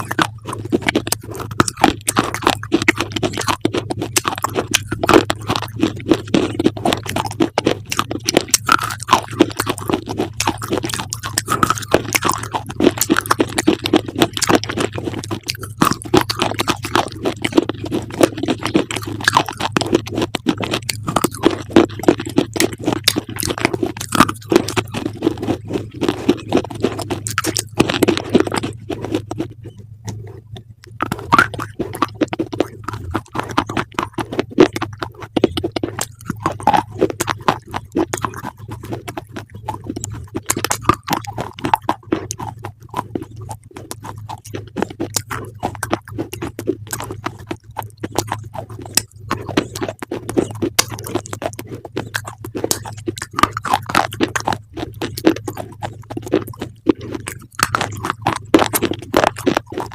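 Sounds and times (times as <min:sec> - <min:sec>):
crunchy chewing of crisp food: 0:00.0 - 0:59.9
steady low hum: 0:00.0 - 0:59.9.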